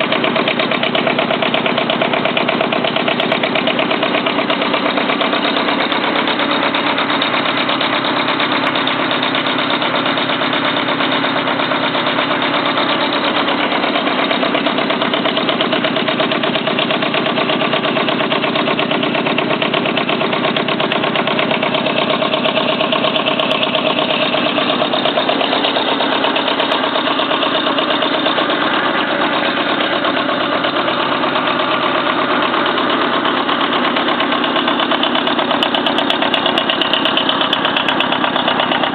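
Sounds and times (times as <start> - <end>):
tractor engine running steadily: 0.0 - 38.9.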